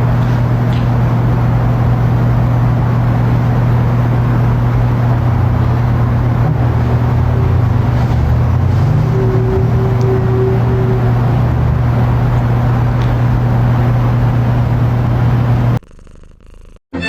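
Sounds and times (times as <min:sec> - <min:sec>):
motor vehicle engine drone: 0:00.0 - 0:15.8.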